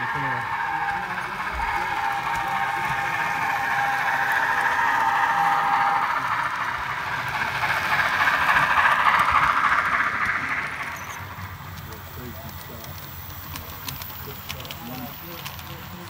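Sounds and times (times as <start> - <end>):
model train wheels rattling: 0.0 - 16.0
thin steady whine: 0.0 - 16.0.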